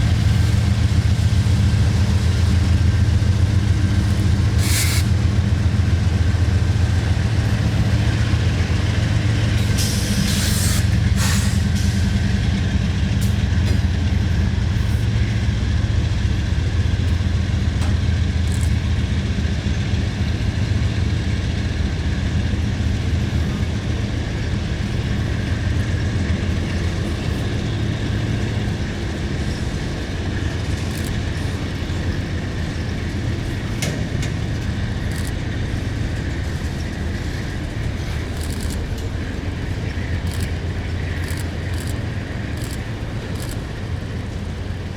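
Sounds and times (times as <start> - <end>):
freight train rumbling: 0.0 - 44.9
sharp clicks from rail cars: 0.0 - 44.9.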